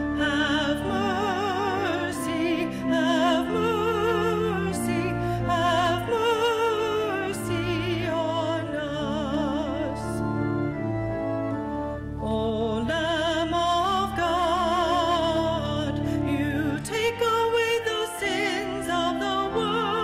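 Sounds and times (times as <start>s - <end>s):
sustained accompanying chords: 0.0s - 20.0s.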